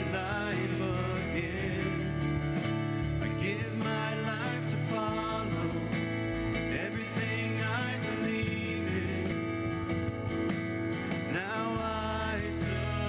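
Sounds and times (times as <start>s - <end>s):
person singing: 0.0s - 9.9s, 11.3s - 13.0s
acoustic guitar: 0.0s - 13.0s
electric bass guitar: 0.0s - 13.0s.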